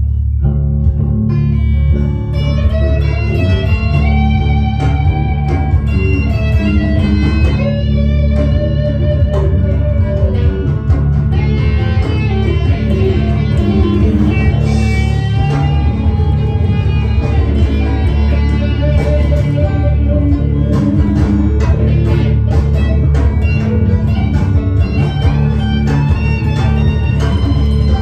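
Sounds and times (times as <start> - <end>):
electric guitar bent notes: 0.0 - 28.0
steady low bass: 0.0 - 28.0.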